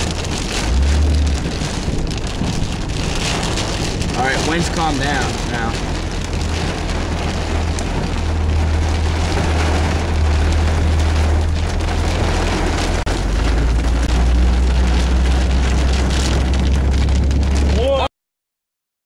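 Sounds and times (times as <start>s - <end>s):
heavy rain pelting a car: 0.0s - 18.1s
low rumble of vehicle: 0.0s - 18.1s.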